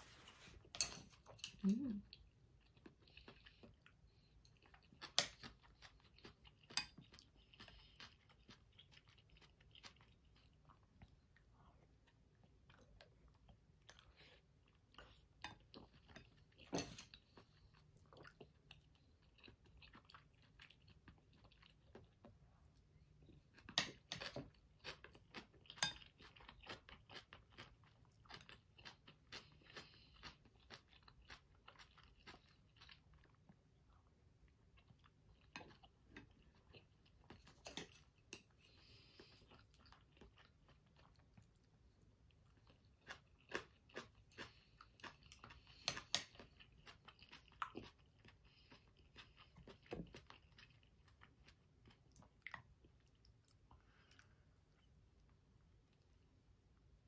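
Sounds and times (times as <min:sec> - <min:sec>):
soft chewing: 0:00.0 - 0:57.0.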